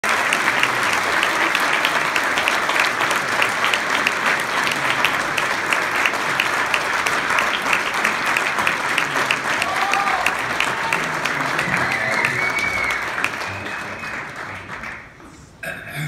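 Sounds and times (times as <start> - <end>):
large audience applauding: 0.0 - 15.2.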